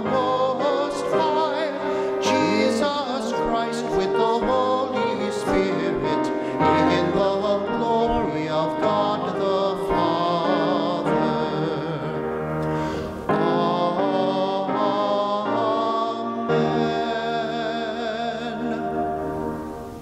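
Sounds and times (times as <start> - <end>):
voices singing church music: 0.0 - 20.0.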